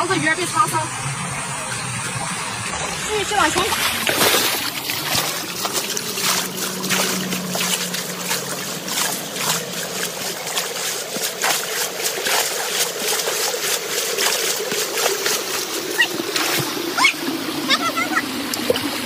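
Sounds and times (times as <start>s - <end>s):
running stream water: 0.0s - 19.0s
water splashing: 0.0s - 19.0s.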